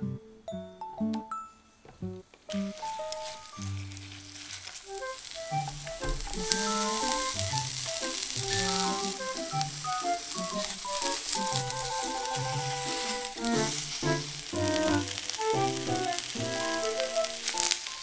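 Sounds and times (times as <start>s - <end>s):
background music: 0.0s - 18.0s
potatoes sizzling in oil: 2.5s - 18.0s.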